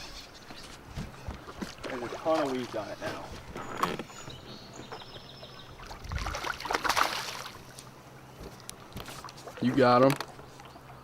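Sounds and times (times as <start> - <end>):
water lapping around boat: 0.0 - 11.0
water splashing: 0.9 - 11.0.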